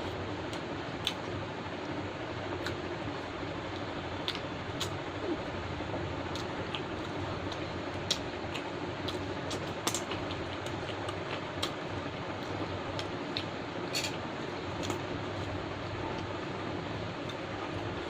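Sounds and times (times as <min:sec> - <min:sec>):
steady fan-like hiss: 0:00.0 - 0:18.0.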